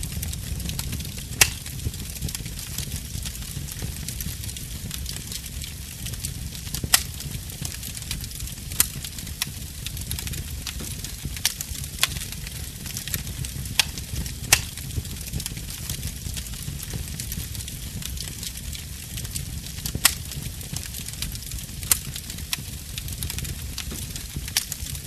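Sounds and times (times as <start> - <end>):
fire crackles and pops: 0.0 - 25.0
wood fire rumbling and hissing: 0.0 - 25.0.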